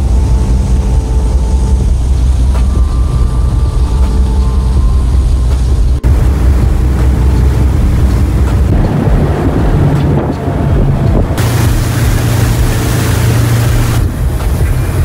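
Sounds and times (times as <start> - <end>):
ferry engines droning: 0.0 - 15.0
water rushing along hull: 0.0 - 15.0
wind buffeting microphone: 0.0 - 15.0.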